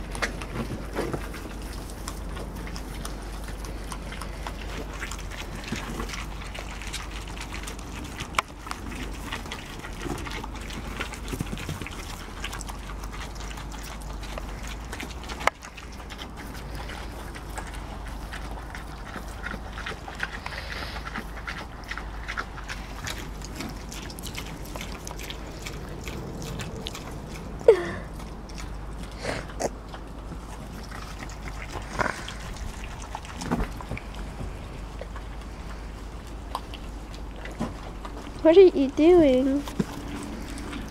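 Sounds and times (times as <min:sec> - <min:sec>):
pig grunts: 0:00.0 - 0:37.6
pigs chewing and rooting: 0:00.0 - 0:40.9.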